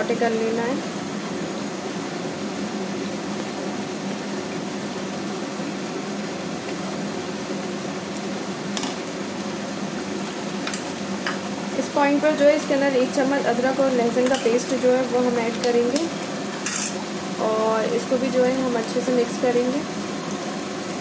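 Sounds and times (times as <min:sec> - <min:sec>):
onion paste sizzling in oil: 0:00.0 - 0:21.0.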